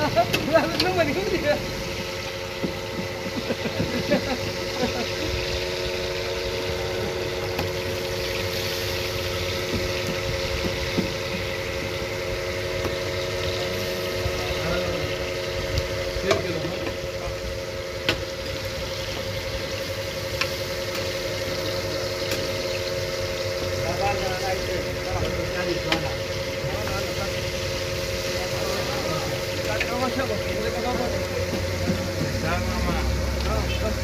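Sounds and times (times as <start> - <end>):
kebabs sizzling in oil: 0.0 - 34.0
mechanical hum: 0.0 - 34.0.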